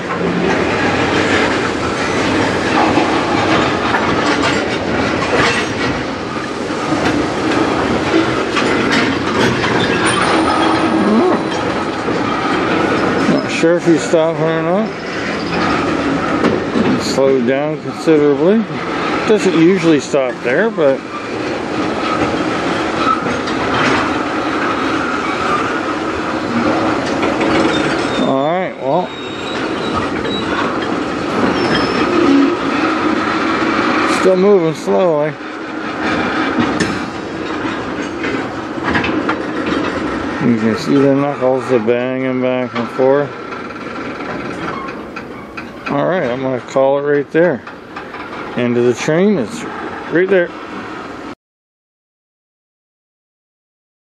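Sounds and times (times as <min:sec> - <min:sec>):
train cars clanking: 0:00.0 - 0:51.3
train wheels clicking on rail joints: 0:00.0 - 0:51.3.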